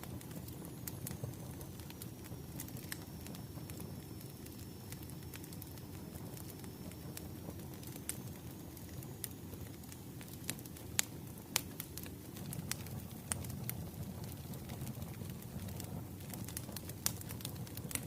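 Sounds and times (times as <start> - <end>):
low rumble of burning logs: 0.0 - 18.0
wood fire popping and snapping: 0.0 - 18.0.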